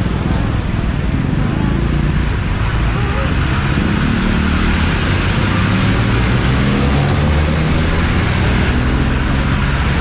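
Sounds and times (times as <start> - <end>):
road rumble: 0.0 - 10.0.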